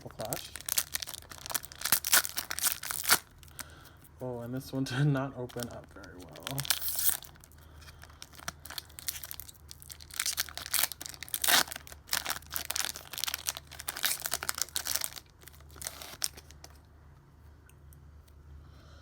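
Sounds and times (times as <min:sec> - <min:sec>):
foil wrapper tearing and crinkling: 0:00.0 - 0:04.0, 0:05.4 - 0:16.8.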